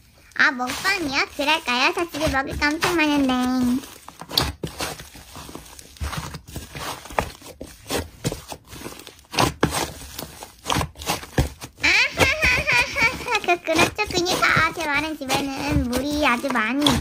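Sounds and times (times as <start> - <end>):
slime squished by hand: 0.6 - 17.0.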